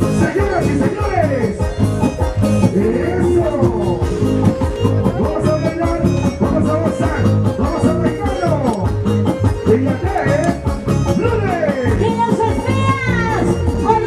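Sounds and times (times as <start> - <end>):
loud dance music: 0.0 - 14.0.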